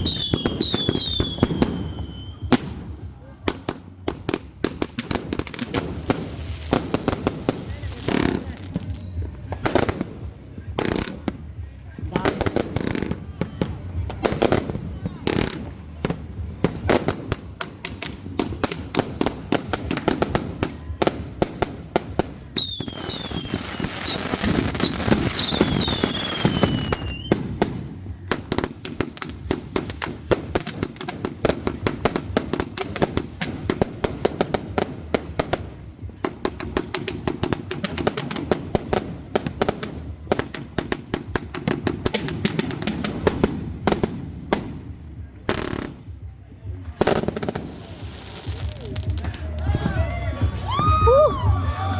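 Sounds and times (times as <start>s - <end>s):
whistling fireworks: 0.0s - 46.1s, 46.7s - 51.9s
firecrackers popping and banging: 0.0s - 51.6s.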